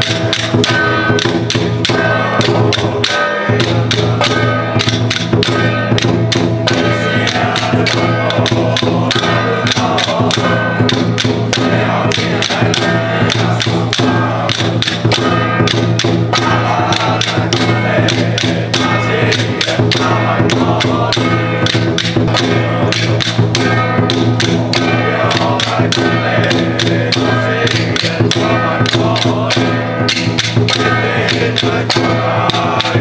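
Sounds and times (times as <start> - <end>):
percussion strikes: 0.0 - 33.0
wind instruments holding tones: 0.0 - 33.0.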